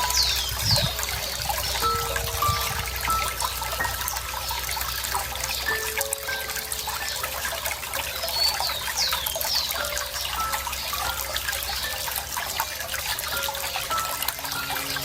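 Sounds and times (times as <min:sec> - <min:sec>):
high bird chirps: 0:00.0 - 0:15.0
water trickling and splashing: 0:00.0 - 0:15.0.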